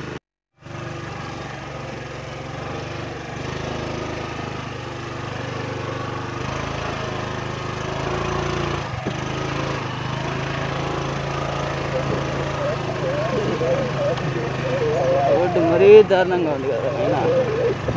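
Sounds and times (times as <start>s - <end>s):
motorbike engine running: 0.6s - 17.9s.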